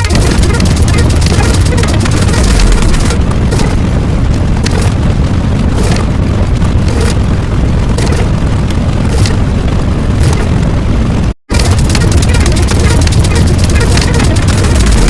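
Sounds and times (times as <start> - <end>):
deep explosion rumble: 0.0 - 15.0
faint crackles: 0.0 - 15.0.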